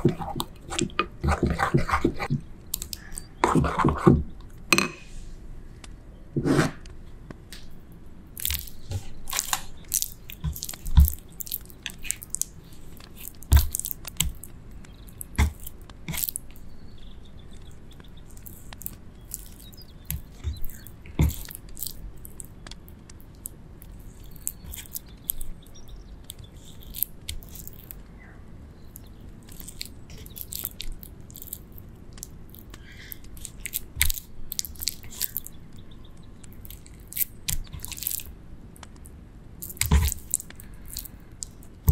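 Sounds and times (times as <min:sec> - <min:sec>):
wet squelches and crackles: 0:00.0 - 0:03.5, 0:06.8 - 0:28.2, 0:28.8 - 0:41.9.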